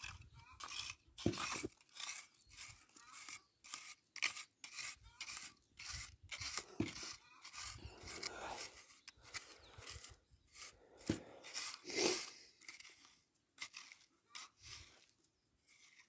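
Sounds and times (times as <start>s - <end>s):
hand fork scraping soil: 0.0s - 16.0s.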